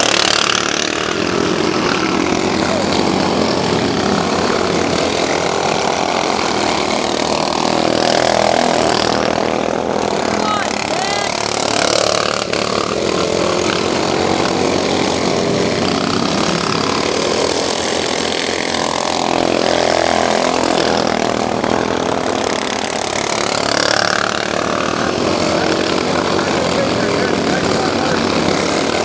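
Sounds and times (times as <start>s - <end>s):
racing lawn mower engines: 0.0s - 29.0s.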